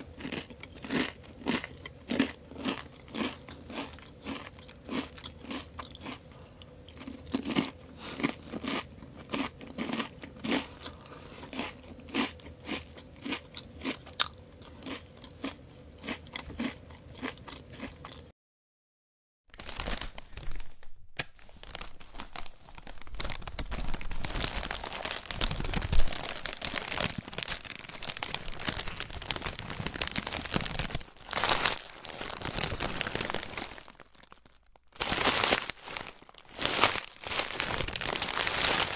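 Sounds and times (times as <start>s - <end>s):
potato chips crunching: 0.0s - 18.2s, 21.6s - 38.9s.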